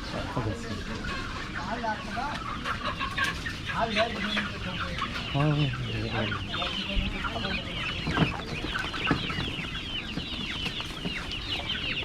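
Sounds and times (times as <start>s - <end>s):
chickens chirping and clucking: 0.0s - 12.0s.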